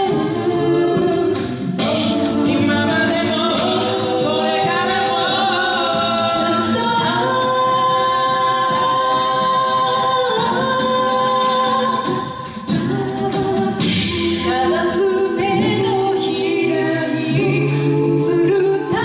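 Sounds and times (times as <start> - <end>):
a cappella group singing: 0.0 - 19.0.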